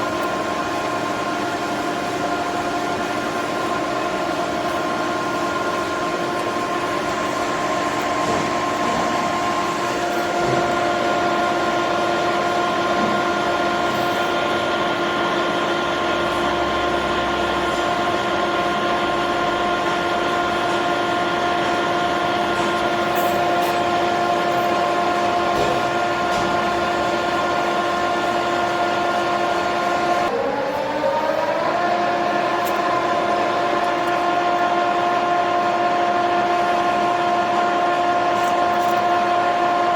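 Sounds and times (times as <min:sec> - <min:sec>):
machine tool motor whine: 0:00.0 - 0:39.9.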